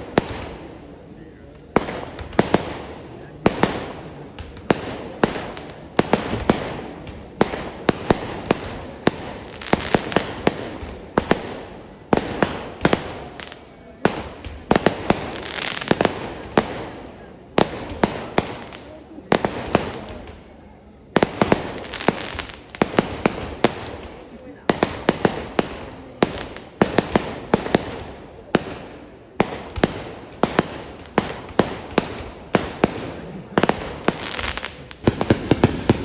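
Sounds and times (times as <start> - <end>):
fireworks bangs echoing: 0.0 - 20.4, 21.0 - 36.0.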